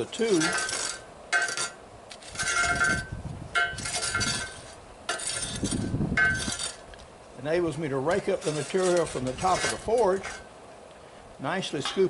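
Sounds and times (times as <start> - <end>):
rake scraping ash on metal grate: 0.0 - 10.6, 11.4 - 12.0.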